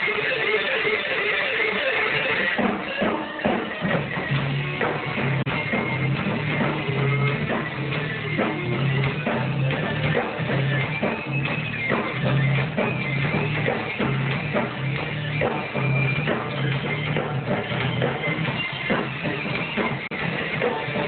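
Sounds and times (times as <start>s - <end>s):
bass guitar riff: 0.0s - 21.0s
drum kit: 0.0s - 21.0s
electric guitar: 0.0s - 21.0s.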